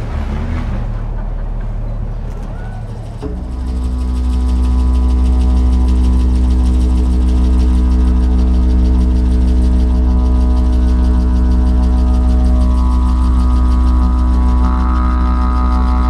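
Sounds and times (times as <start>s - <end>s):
didgeridoo drone: 0.0s - 16.0s.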